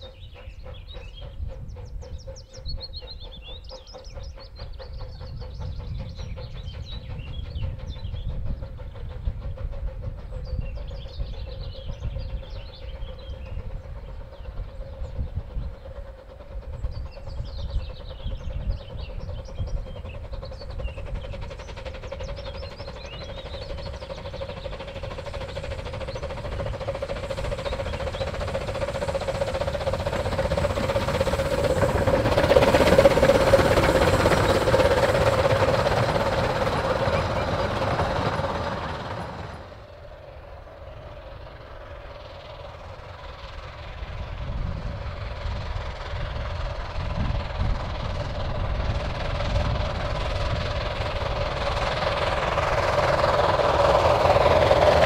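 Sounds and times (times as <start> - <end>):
steam train approaching: 0.0 - 55.0
steam train passing: 0.0 - 55.0.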